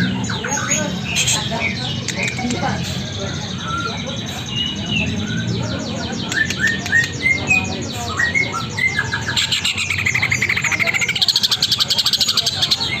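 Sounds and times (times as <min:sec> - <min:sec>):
songbird chirping and trilling: 0:00.0 - 0:13.0.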